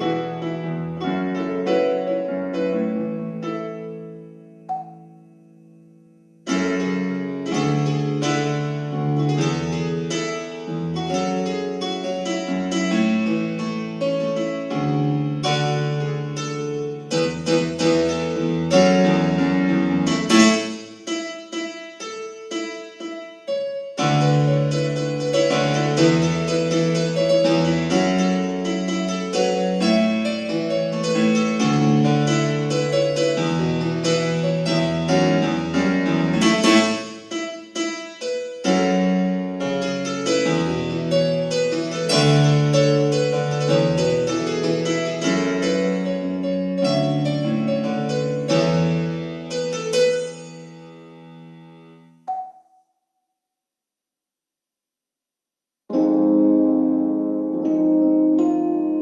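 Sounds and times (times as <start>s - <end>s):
digital piano with bass line: 0.0s - 52.6s, 55.9s - 59.0s.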